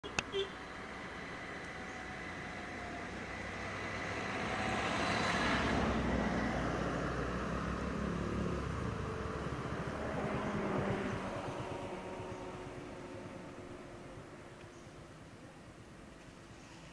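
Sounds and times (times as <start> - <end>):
motor vehicle passing: 0.1 - 15.0.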